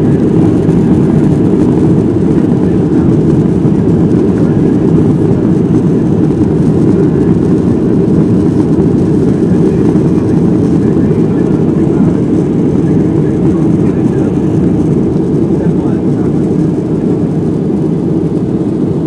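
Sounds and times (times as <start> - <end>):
jet engine roar in cabin: 0.0 - 19.0.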